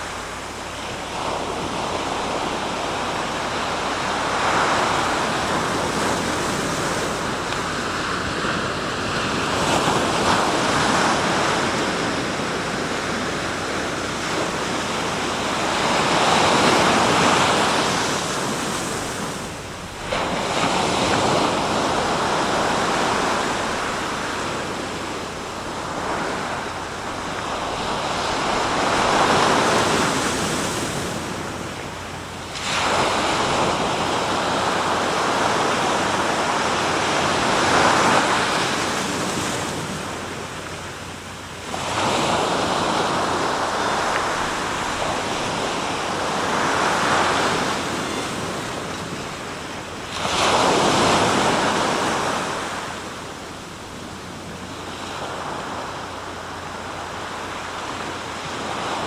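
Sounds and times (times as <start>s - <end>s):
waves breaking and washing: 0.0s - 59.0s.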